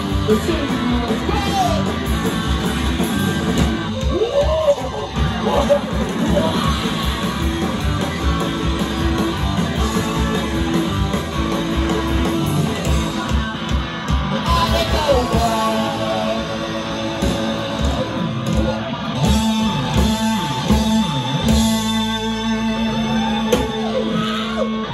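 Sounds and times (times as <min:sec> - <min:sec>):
live rock band playing loudly: 0:00.0 - 0:24.9.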